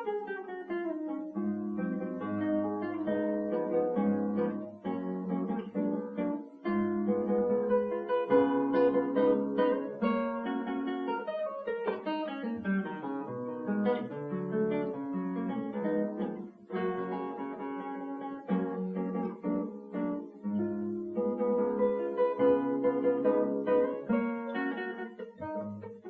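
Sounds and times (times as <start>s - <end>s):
classical guitar melody: 0.0s - 26.0s.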